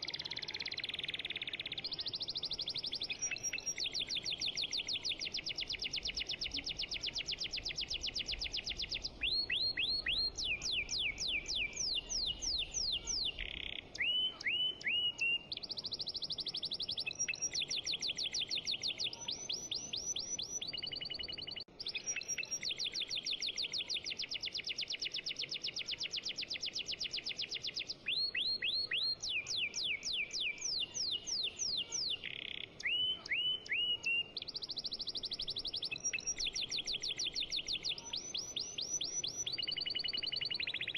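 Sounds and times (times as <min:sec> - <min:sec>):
birdsong with fast trills: 0:00.0 - 0:40.9.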